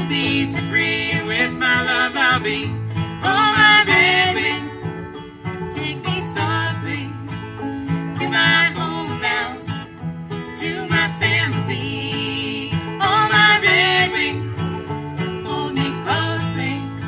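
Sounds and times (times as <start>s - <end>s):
acoustic guitar strummed: 0.0s - 17.0s
banjo picked: 0.0s - 17.0s.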